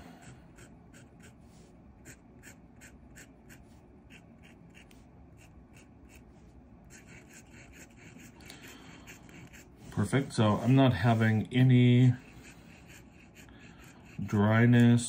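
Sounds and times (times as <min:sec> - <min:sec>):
pen nib scratching on paper: 0:00.2 - 0:15.0.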